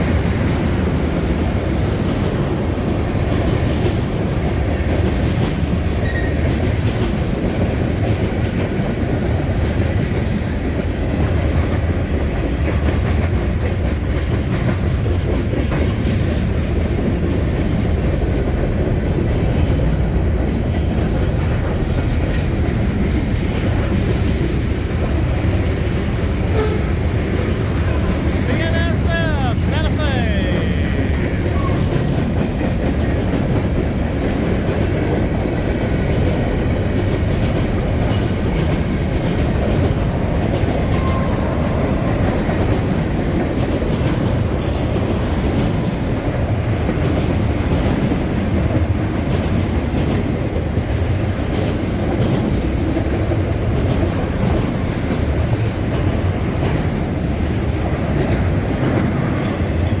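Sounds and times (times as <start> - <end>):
steel wheels rumbling on rail: 0.0 - 29.0, 30.7 - 60.0.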